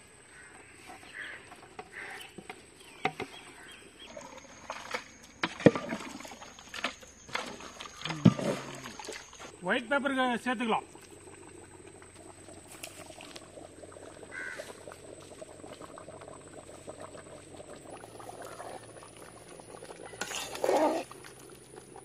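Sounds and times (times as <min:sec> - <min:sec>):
gravy bubbling in a pot: 0:00.0 - 0:22.0.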